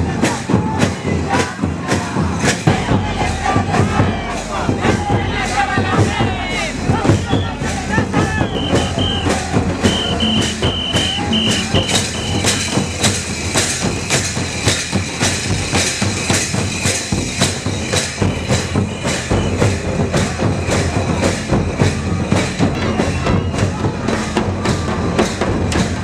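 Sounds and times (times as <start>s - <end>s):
hand-played barrel drum: 0.0s - 26.0s
kettle drum beaten with sticks: 0.0s - 26.0s.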